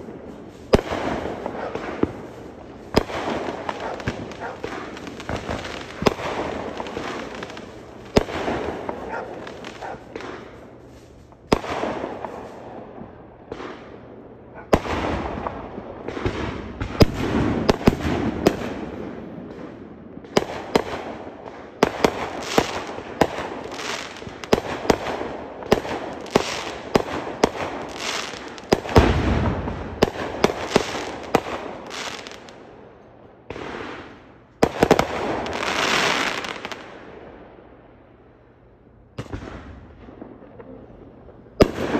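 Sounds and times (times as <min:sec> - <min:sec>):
fireworks crackling: 0:00.0 - 0:14.0, 0:14.6 - 0:32.8, 0:33.5 - 0:37.0.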